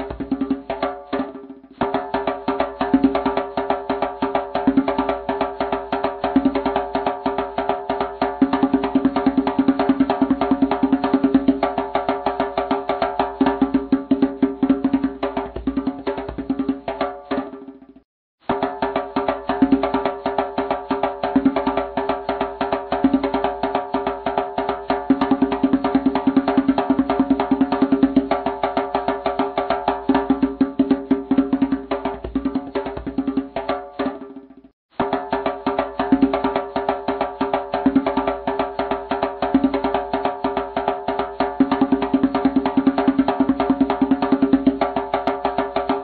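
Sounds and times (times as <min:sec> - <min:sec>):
background music with percussive beat: 0:00.0 - 0:46.0.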